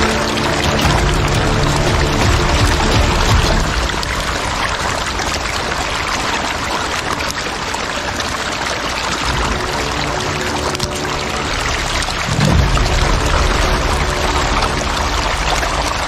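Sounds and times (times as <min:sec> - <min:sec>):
fish thrashing and splashing water: 0:00.0 - 0:16.0.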